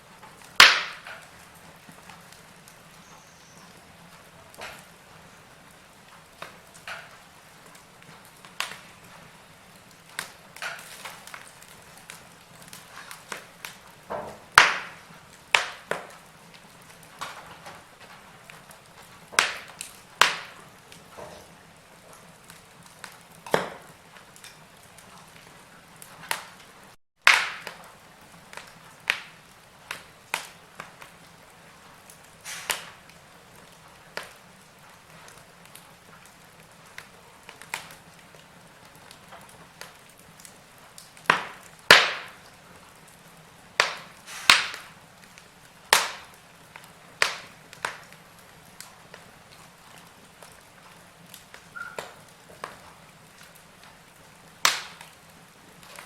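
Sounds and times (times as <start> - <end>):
burning logs crackling: 0.0 - 56.0
faint steady hiss: 0.0 - 56.0.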